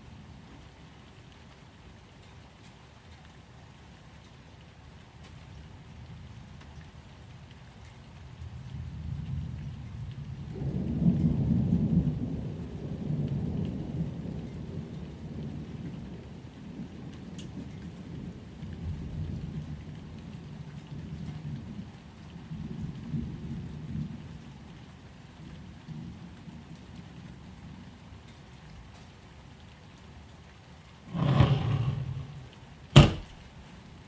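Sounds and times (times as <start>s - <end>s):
rain: 0.0s - 31.1s.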